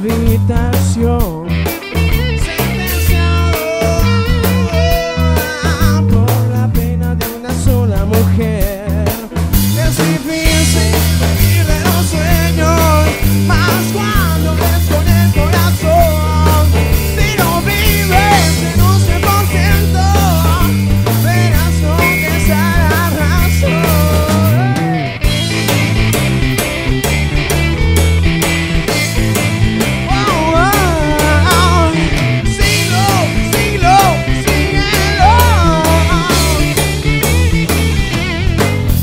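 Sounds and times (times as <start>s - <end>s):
man singing: 0.0s - 25.3s, 30.0s - 37.0s
bass guitar line: 0.0s - 39.0s
guitar: 0.0s - 39.0s.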